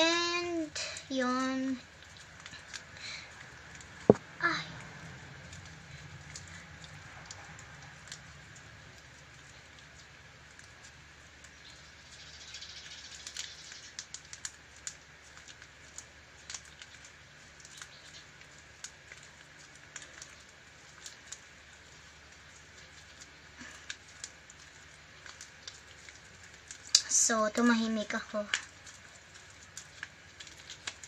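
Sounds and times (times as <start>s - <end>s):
slime clicking and crackling: 0.0s - 31.0s.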